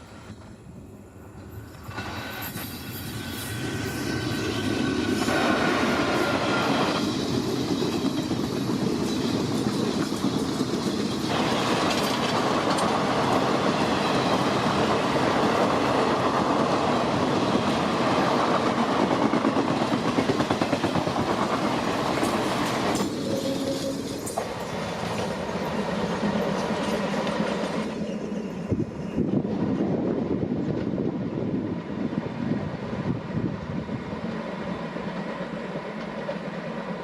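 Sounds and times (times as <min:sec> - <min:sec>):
train rolling past: 0:00.0 - 0:37.0.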